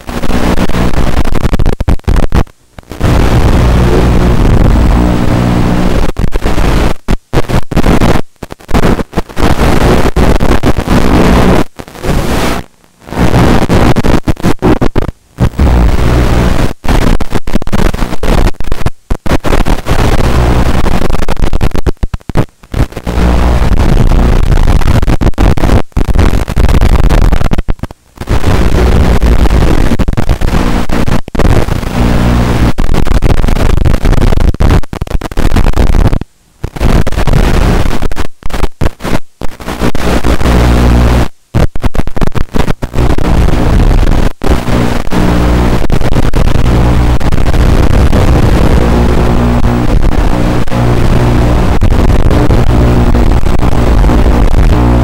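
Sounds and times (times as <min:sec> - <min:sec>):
loud static hiss: 0:00.0 - 0:55.0.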